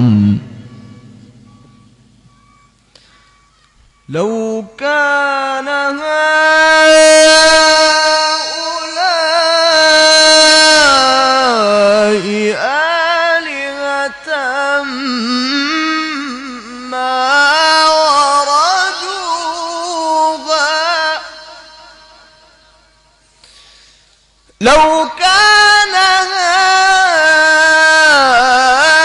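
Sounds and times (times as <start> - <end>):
man chanting melismatic recitation: 0.0 - 1.9, 4.0 - 22.7, 24.6 - 29.0.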